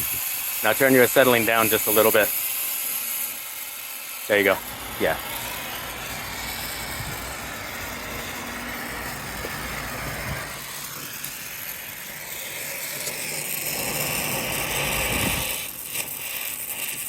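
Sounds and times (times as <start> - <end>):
torch flame hissing: 0.0 - 17.0.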